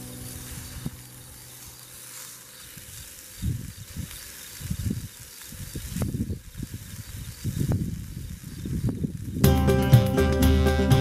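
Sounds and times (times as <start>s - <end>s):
patty sizzling in a skillet: 0.0s - 11.0s.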